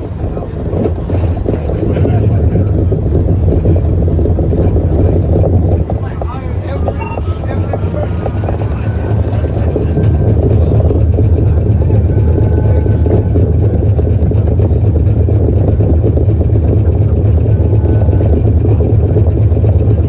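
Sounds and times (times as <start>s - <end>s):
streetcar rumbling on tracks: 0.0s - 20.0s.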